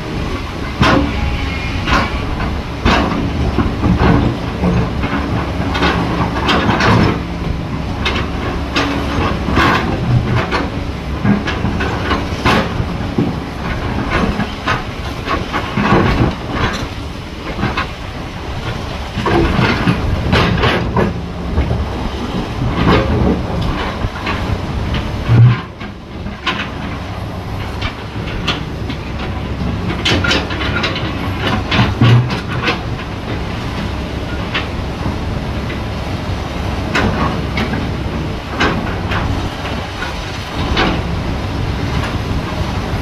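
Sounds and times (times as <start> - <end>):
diesel engine running under load: 0.0 - 43.0.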